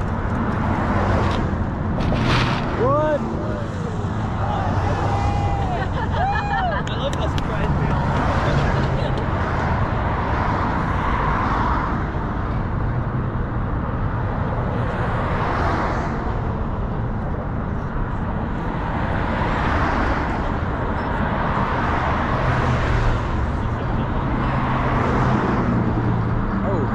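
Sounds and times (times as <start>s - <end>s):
heavy vehicle engine hum: 0.0s - 15.5s, 16.1s - 26.9s
traffic rushing past: 0.0s - 26.9s.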